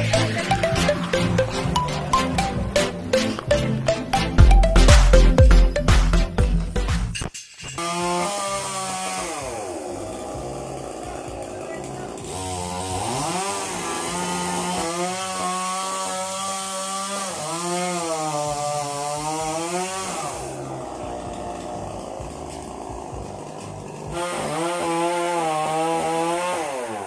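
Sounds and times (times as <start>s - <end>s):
chainsaw cutting wood revving: 0.0s - 5.2s, 7.8s - 27.0s.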